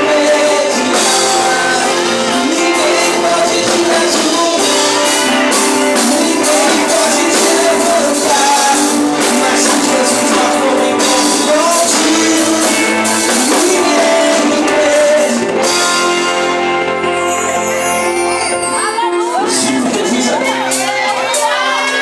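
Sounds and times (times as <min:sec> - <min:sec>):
live band playing: 0:00.0 - 0:22.0
person singing: 0:00.0 - 0:22.0.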